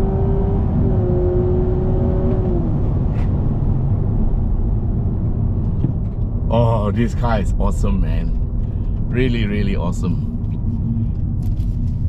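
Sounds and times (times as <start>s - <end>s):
car powertrain and road drone: 0.0s - 12.0s.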